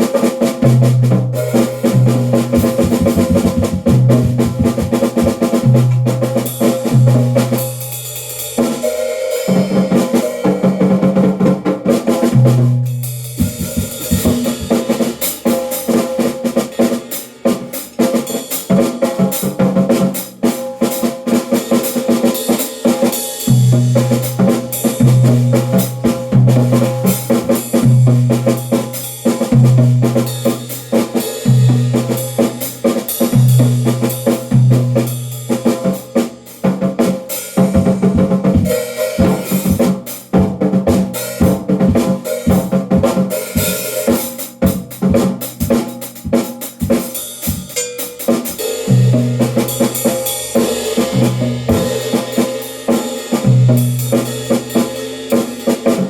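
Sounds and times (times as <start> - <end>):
drum kit groove: 0.0 - 56.0.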